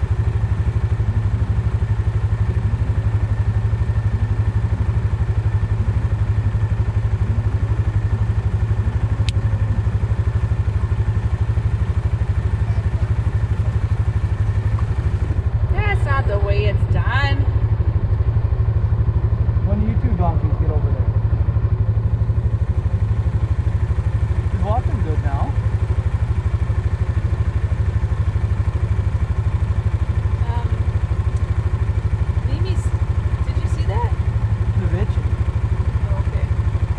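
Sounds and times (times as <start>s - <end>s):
vehicle engine running: 0.0s - 36.9s.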